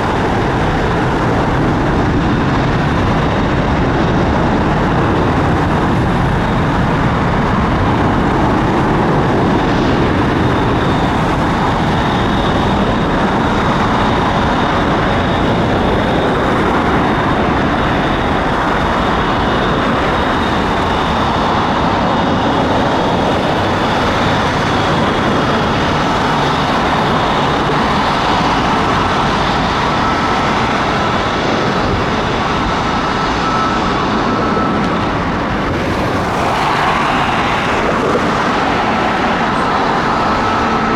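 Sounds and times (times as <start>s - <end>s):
jet engines running: 0.0s - 40.9s
faint high whine: 5.0s - 40.9s.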